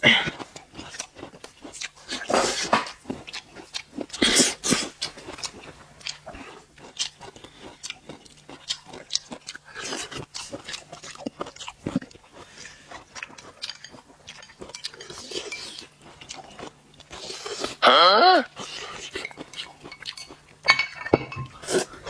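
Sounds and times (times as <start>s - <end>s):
person chewing crunchy food: 0.0s - 17.8s, 18.4s - 20.6s.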